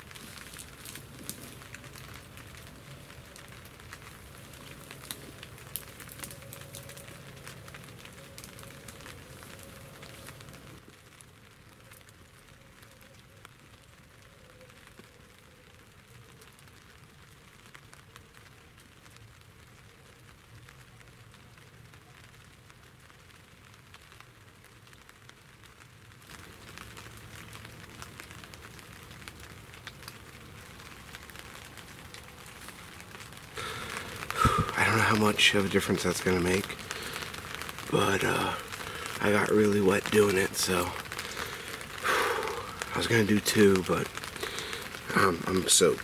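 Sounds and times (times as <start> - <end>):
light rain pattering on fabric: 0.0 - 46.0.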